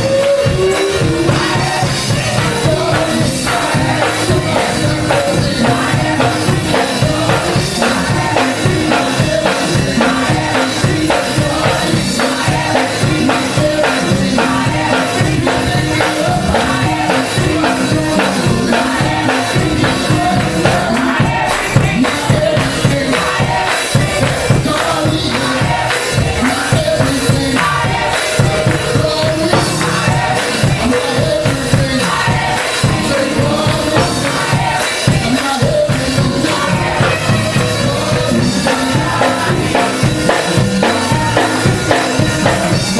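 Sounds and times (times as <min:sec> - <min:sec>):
gospel choir singing: 0:00.0 - 0:42.9
live band with steady beat: 0:00.0 - 0:42.9.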